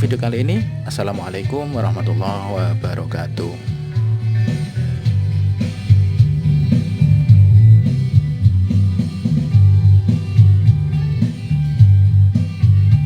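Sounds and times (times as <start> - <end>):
guitar: 0.0 - 13.0
heavy bass line: 0.0 - 13.0
steady drum beat: 0.0 - 13.0.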